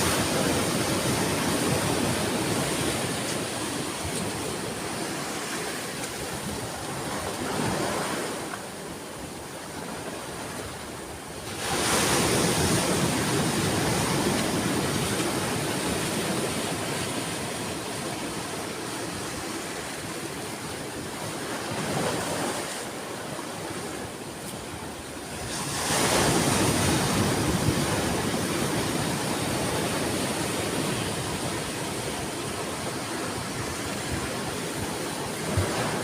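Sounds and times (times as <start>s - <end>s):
ocean waves breaking on shore: 0.0s - 36.0s.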